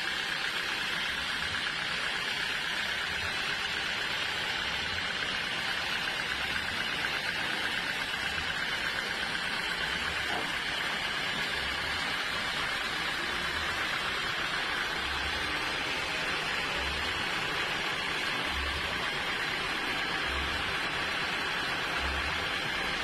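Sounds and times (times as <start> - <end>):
sawmill machinery droning: 0.0 - 23.0.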